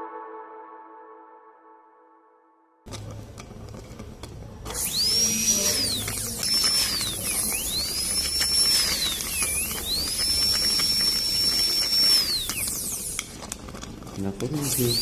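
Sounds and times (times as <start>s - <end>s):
dental drill whining: 2.9s - 15.0s.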